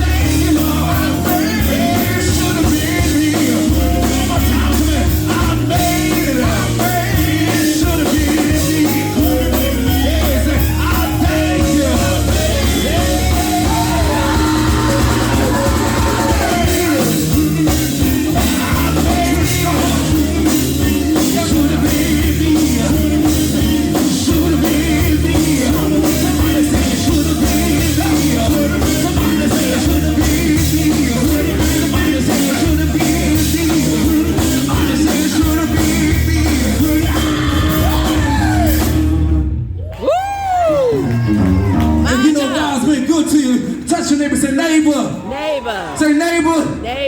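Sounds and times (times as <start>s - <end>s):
person singing: 0.0s - 39.0s
steady drum beat: 0.0s - 43.9s
live gospel band music: 0.0s - 47.0s.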